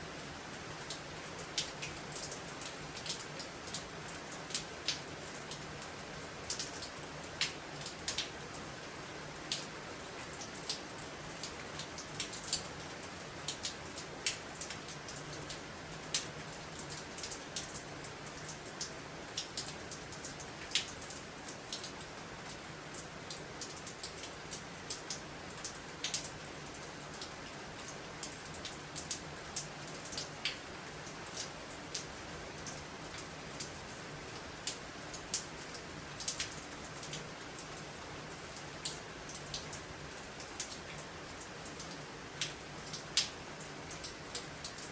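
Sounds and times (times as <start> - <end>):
steady rain hiss: 0.0 - 44.9
raindrops ticking: 0.9 - 8.4, 10.3 - 44.9.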